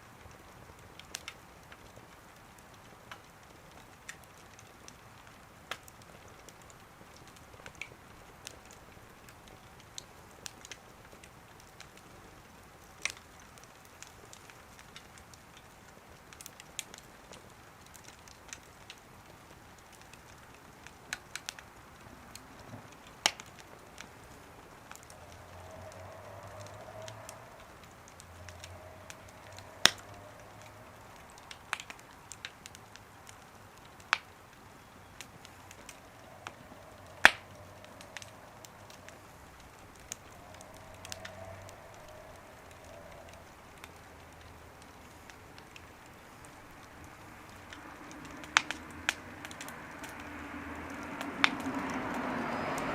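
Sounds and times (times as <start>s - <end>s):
faint fire hiss: 0.0s - 52.9s
wood fire crackling: 0.0s - 52.9s.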